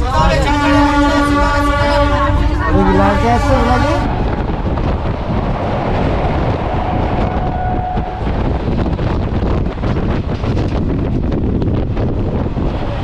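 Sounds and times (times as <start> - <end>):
moving train rumble: 0.0 - 13.0
wind buffeting microphone: 0.0 - 13.0.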